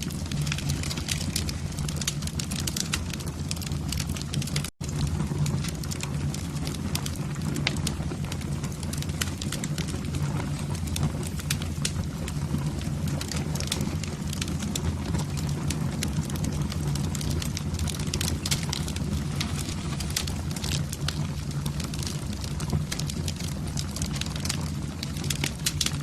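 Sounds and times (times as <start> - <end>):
low rumble of flame: 0.0 - 26.0
wood fire crackling and popping: 0.0 - 26.0.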